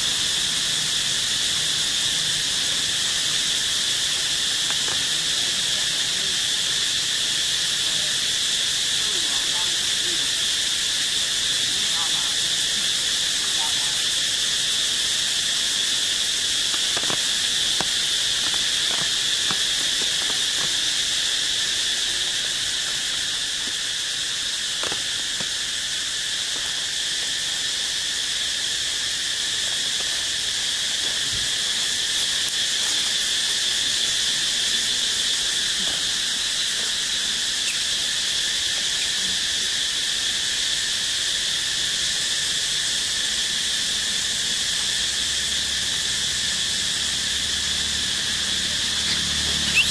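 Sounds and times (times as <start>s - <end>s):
high-pitched insect chorus: 0.0s - 49.9s.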